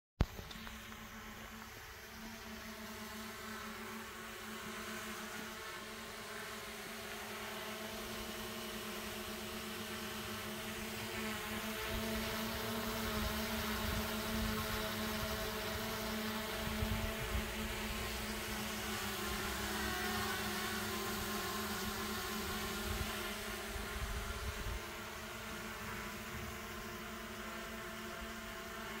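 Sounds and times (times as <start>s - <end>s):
drone propellers buzzing: 0.2s - 29.0s.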